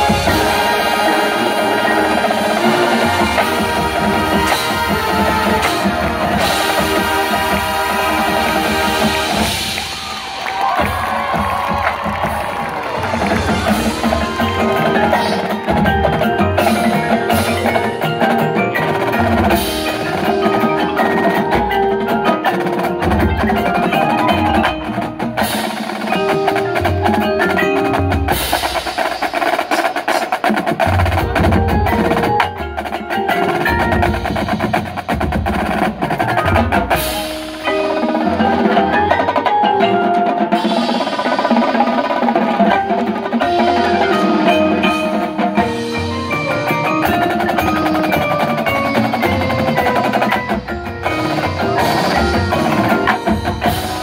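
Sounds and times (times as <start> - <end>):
mallet percussion and chimes: 0.0 - 29.4, 30.9 - 54.0
marching band percussion: 0.0 - 54.0
snare and tenor drums: 0.0 - 54.0.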